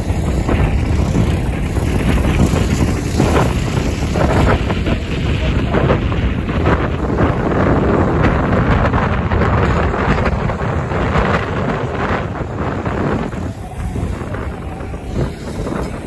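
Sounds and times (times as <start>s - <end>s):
racing car engines: 0.0s - 16.0s
wind buffeting microphone: 0.0s - 16.0s.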